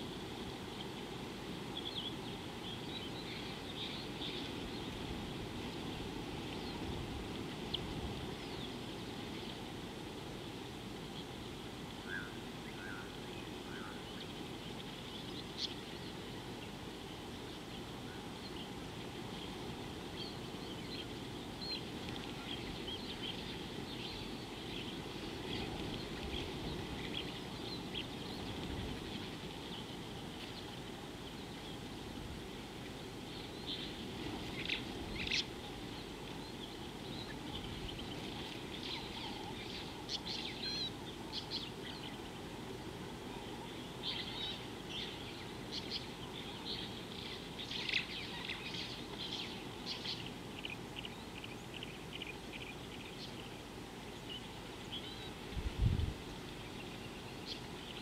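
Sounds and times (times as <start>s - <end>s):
small birds chirping: 0.0s - 58.0s
steady low background noise: 0.0s - 58.0s.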